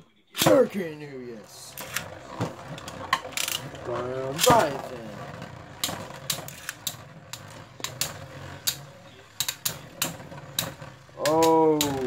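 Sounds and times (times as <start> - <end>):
low steady whir: 1.0 - 12.0.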